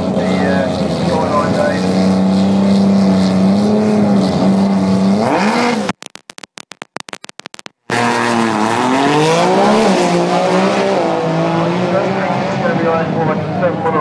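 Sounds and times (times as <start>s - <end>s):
drag racing car engine: 0.0s - 6.0s, 7.8s - 14.0s.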